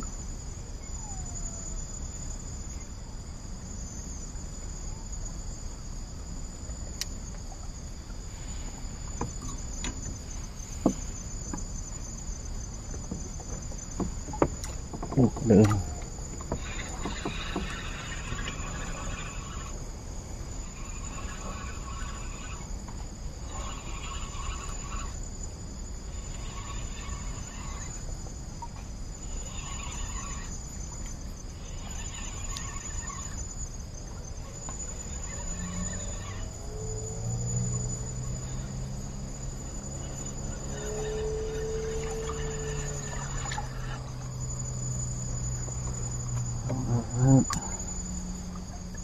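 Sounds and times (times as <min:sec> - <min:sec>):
faint low hum: 0:00.0 - 0:49.0
insects chirping: 0:00.0 - 0:49.0
insects trilling: 0:00.0 - 0:49.0.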